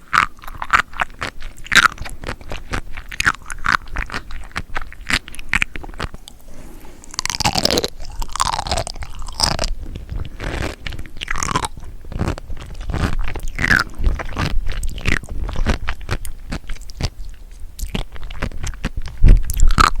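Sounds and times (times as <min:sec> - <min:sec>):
person chewing crunchily: 0:00.0 - 0:20.0.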